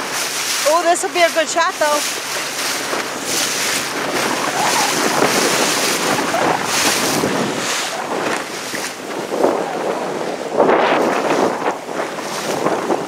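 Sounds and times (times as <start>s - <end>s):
water washing on open sea: 0.0s - 13.0s
wind on microphone: 0.0s - 13.0s.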